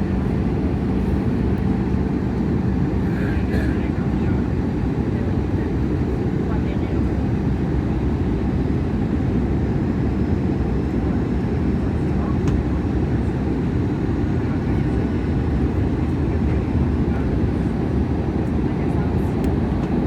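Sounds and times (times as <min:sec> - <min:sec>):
airliner cabin engine roar: 0:00.0 - 0:20.0.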